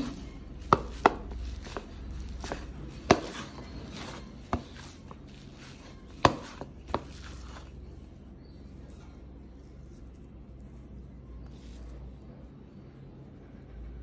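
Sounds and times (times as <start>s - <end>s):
rice rustling: 0.0s - 12.4s.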